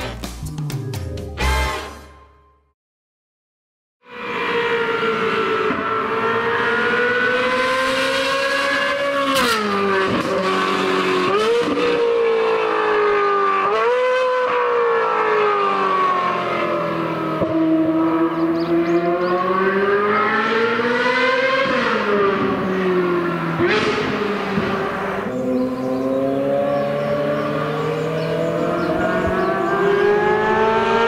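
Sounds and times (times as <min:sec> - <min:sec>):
sports car engine wailing: 0:04.1 - 0:31.0.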